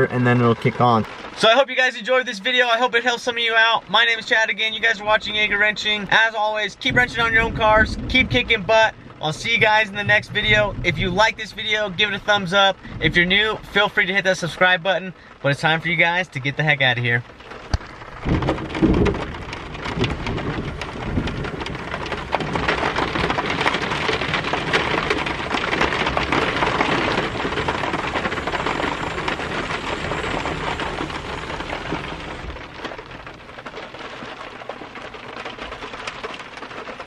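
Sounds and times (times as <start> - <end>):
rain on a vehicle roof: 0.0 - 37.0.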